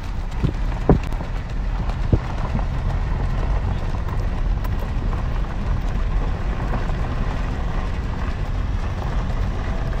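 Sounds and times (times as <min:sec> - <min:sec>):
car driving on dirt track: 0:00.0 - 0:10.0.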